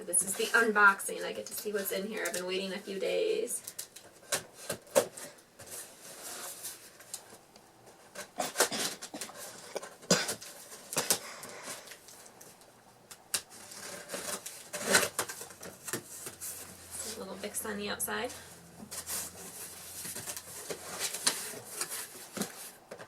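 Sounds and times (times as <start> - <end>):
cardboard packaging rustling: 3.6 - 17.6, 18.2 - 23.0.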